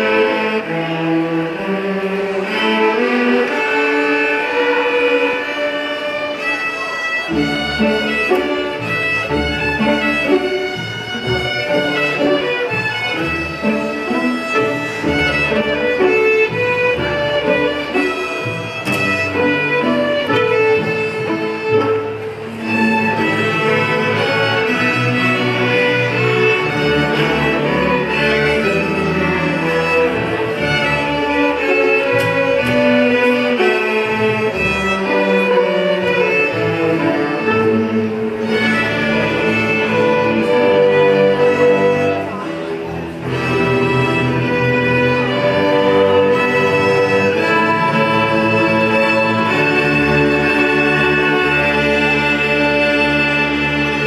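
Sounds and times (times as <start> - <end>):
string orchestra playing: 0.0 - 54.0.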